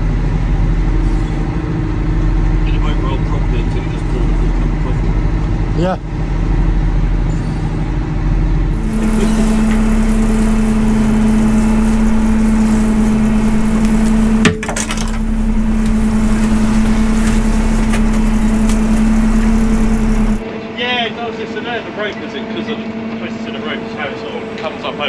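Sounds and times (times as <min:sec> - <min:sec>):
sea noise: 0:00.0 - 0:20.4
boat machinery droning hum: 0:00.0 - 0:25.0
wind: 0:00.0 - 0:25.0.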